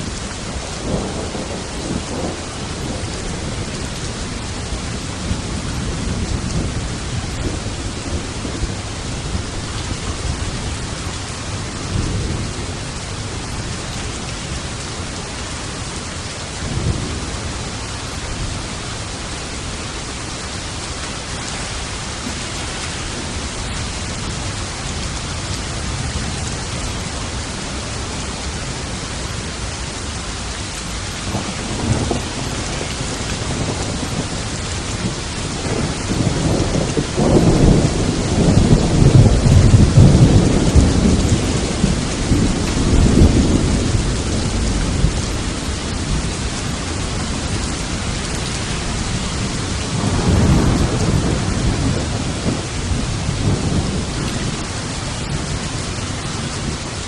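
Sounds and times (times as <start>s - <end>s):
rolling thunder: 0.0s - 14.8s, 22.0s - 45.3s, 47.1s - 55.8s
steady rain: 0.0s - 57.0s.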